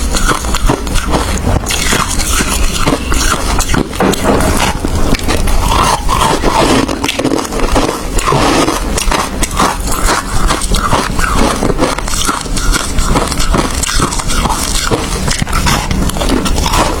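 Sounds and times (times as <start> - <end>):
ice being chewed and crunched: 0.0 - 17.0.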